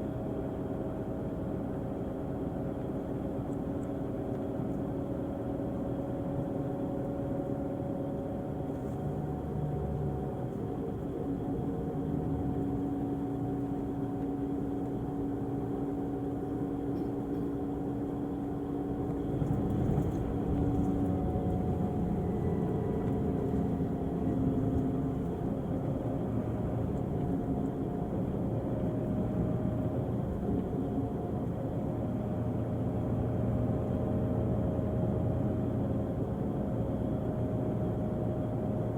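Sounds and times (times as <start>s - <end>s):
coach diesel engine running: 1.9s - 38.8s.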